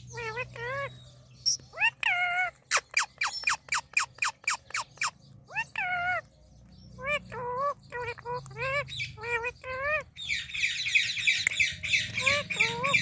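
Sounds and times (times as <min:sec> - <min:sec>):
parakeet calling: 0:00.0 - 0:13.0.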